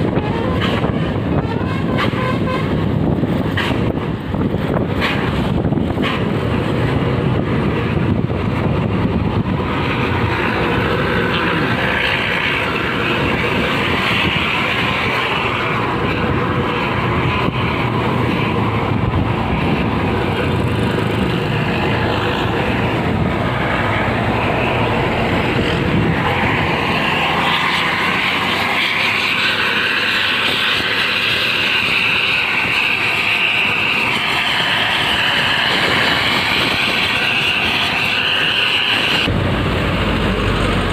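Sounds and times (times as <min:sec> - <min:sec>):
buses passing at speed: 0:00.0 - 0:40.9.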